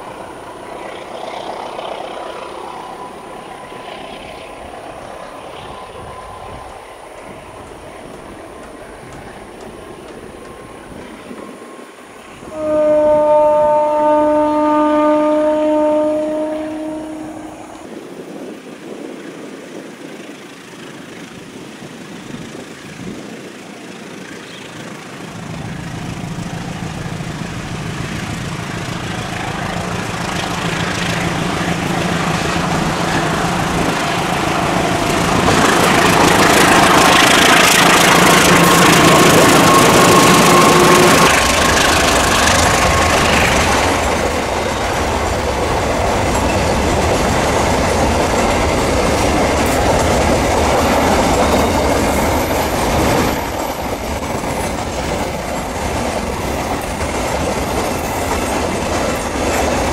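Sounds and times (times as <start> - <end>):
diesel locomotive engine hum: 0.0 - 59.9
wheels rumbling on rails: 0.0 - 59.9.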